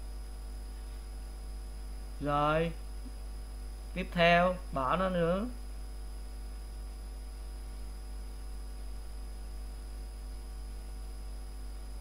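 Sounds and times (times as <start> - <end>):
electrical mains hum: 0.0 - 12.0
faint high-pitched whine: 0.0 - 12.0.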